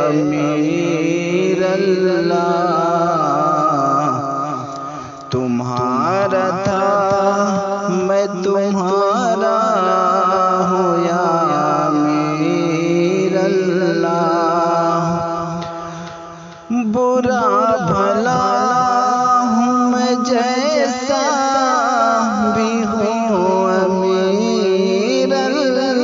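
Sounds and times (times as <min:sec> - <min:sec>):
qawwali singing with ornamented melody: 0:00.0 - 0:26.0.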